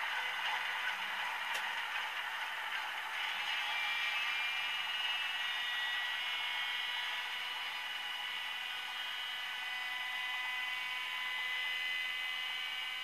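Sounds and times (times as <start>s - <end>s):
high steady whine: 0.0s - 13.0s.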